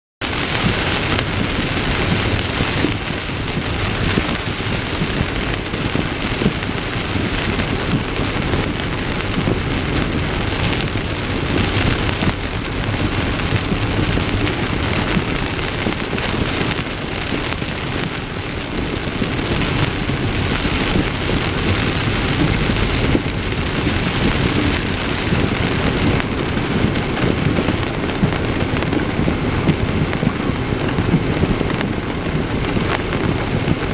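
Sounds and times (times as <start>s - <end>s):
heavy rain on a car: 0.2s - 33.9s
low rumble: 0.2s - 33.9s.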